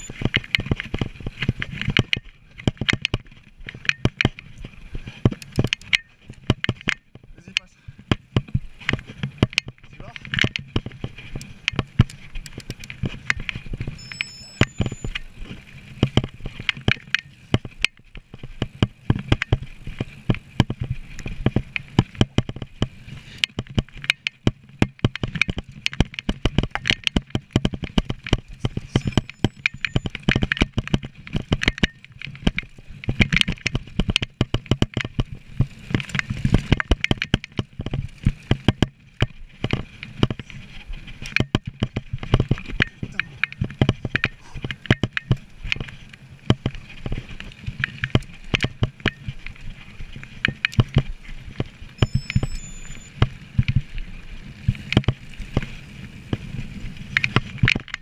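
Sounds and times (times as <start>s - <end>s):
bike rattling over bumps: 0.0s - 58.0s
tyre noise: 0.0s - 58.0s
wind noise: 0.0s - 58.0s.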